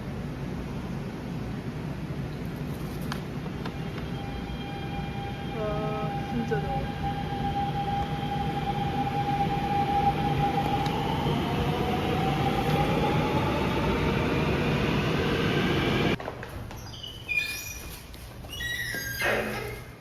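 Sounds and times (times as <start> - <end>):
train rumbling with high whine: 0.0 - 16.2.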